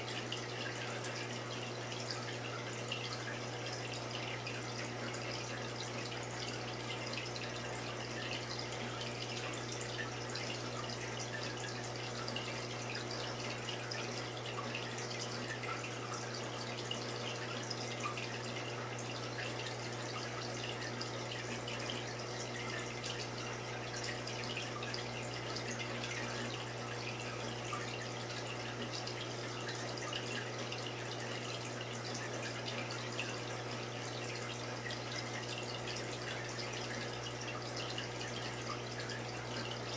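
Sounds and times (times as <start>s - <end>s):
water trickling with drips: 0.0s - 39.9s.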